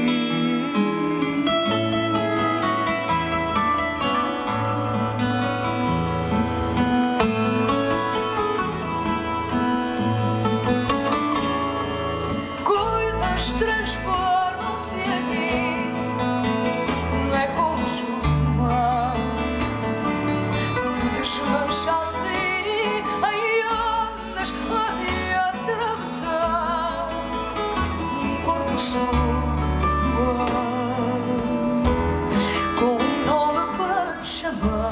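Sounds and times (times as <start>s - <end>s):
woman singing with vibrato: 0.0s - 8.3s, 11.3s - 19.8s, 20.6s - 34.9s
plucked guitars: 0.0s - 34.9s.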